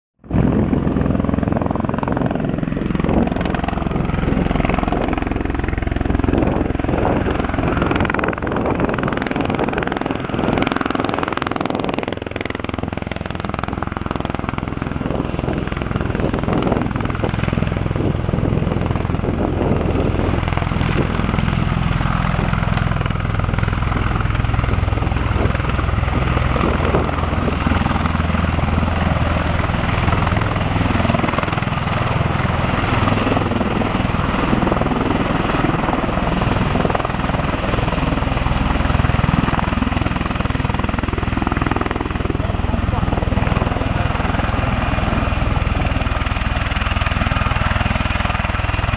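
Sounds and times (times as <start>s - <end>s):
deep rotor drone: 0.2s - 48.9s.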